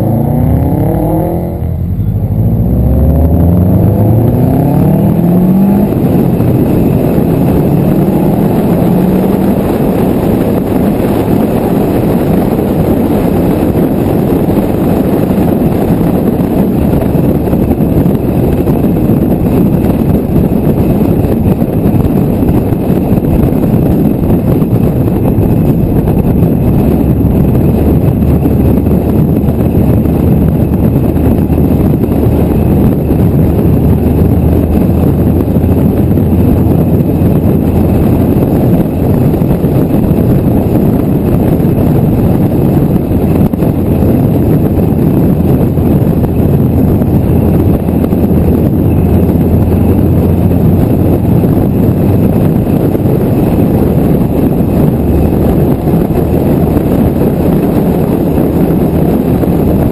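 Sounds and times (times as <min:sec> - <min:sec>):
car engine: 0:00.0 - 0:59.9
wind noise: 0:00.0 - 0:59.9.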